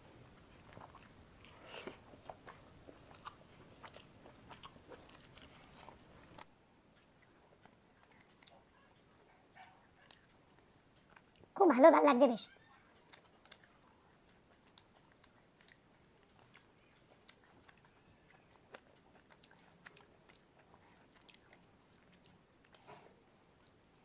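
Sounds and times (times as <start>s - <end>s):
person chewing: 0.4s - 11.5s, 13.0s - 24.0s.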